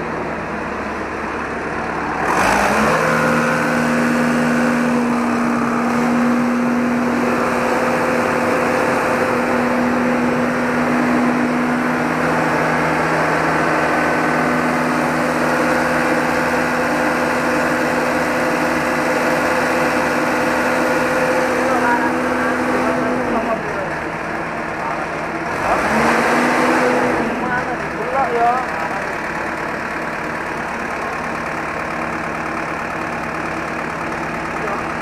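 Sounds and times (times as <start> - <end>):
diesel engine starting and idling: 0.0 - 35.0.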